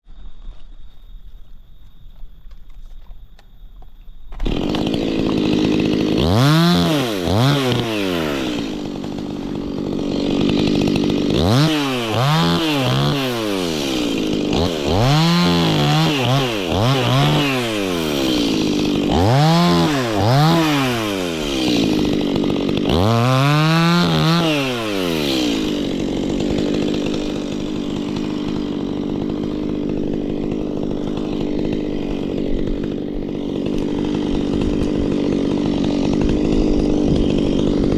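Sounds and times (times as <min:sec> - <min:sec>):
chainsaw idling and revving: 0:04.4 - 0:37.9.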